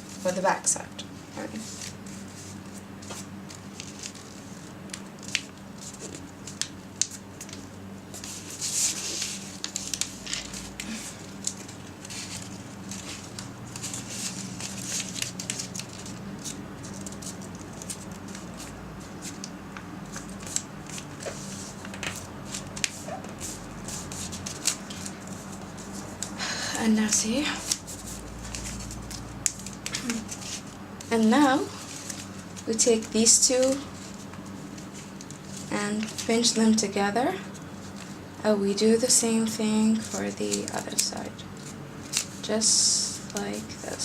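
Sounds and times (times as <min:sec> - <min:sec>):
faint steady hum: 0:00.0 - 0:44.0
paper being folded and creased: 0:01.0 - 0:26.4, 0:27.0 - 0:36.9, 0:39.7 - 0:44.0.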